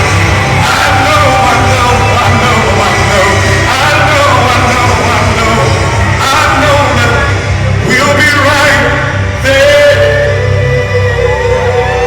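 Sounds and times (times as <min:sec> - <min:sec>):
heavy bass: 0:00.0 - 0:12.0
loud band playing: 0:00.0 - 0:12.0
men singing: 0:00.5 - 0:12.0.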